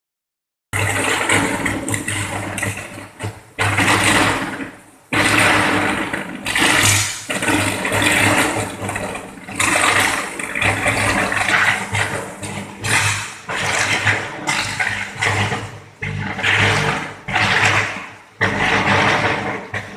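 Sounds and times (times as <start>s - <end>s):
electric arc crackling roar: 0.8s - 19.9s.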